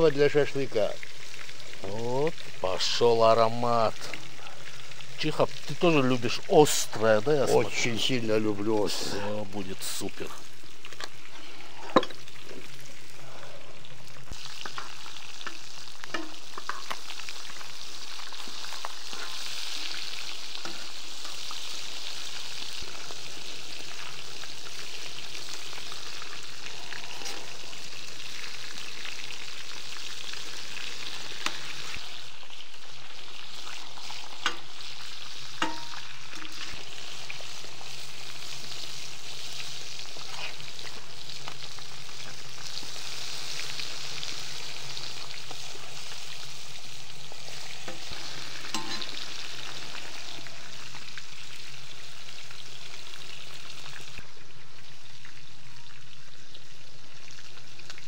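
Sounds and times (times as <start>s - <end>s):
food sizzling in hot fat: 0.0s - 58.0s.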